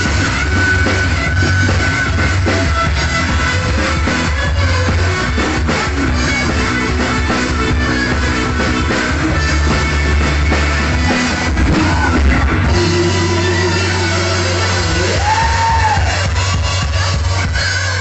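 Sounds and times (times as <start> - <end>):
bass guitar: 0.0 - 18.0
drum kit: 0.0 - 18.0
electric guitars: 0.0 - 18.0.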